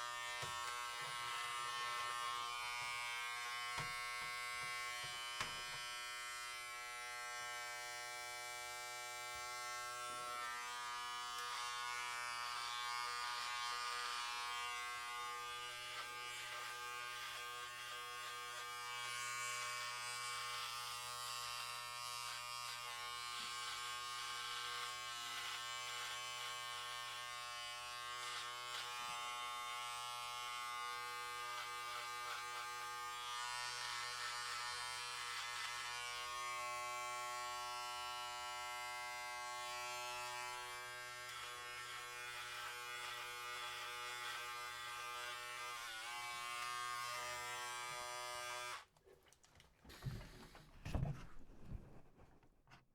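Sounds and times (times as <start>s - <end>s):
electric hair clippers buzzing: 0.0s - 48.9s
clippers cutting hair rustling: 0.0s - 49.0s.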